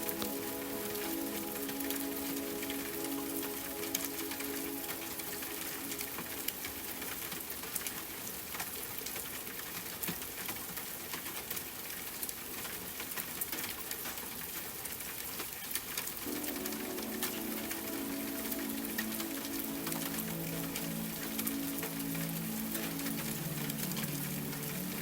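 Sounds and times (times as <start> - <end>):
rain drops pattering and dripping: 0.0 - 25.0.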